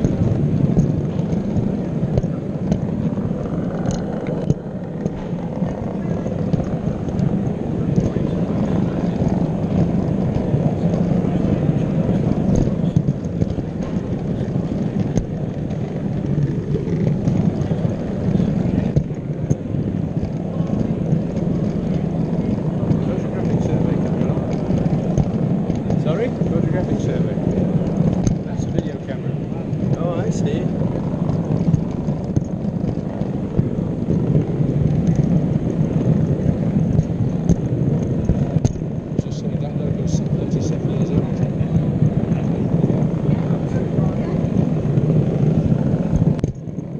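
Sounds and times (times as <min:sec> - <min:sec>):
model locomotive motor and wheels rumbling: 0:00.0 - 0:46.9.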